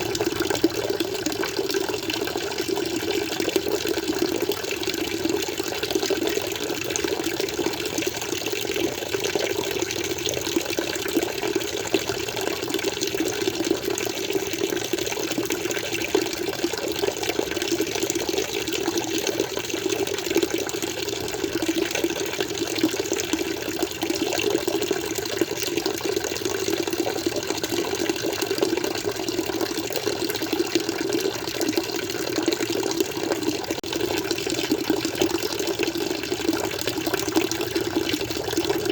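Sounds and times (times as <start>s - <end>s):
water flowing steadily: 0.0s - 38.9s.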